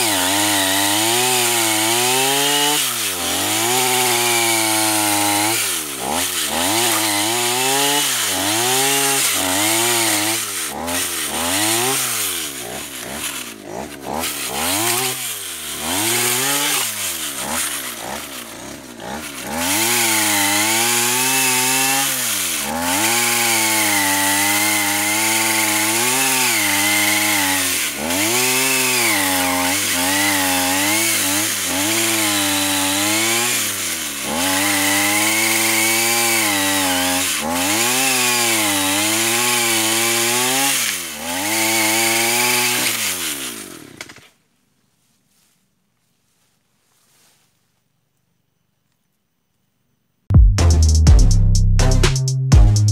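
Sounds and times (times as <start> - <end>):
brushcutter engine revving: 0.0 - 44.3.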